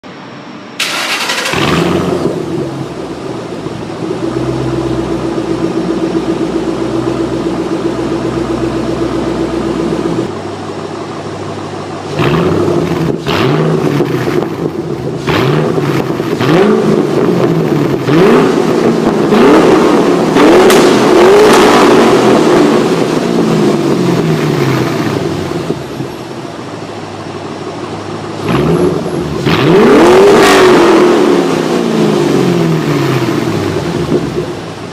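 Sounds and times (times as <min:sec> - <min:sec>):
car engine revving: 0:00.8 - 0:10.3, 0:12.0 - 0:26.6, 0:28.2 - 0:34.9
car engine idling: 0:00.8 - 0:30.2, 0:31.1 - 0:34.9.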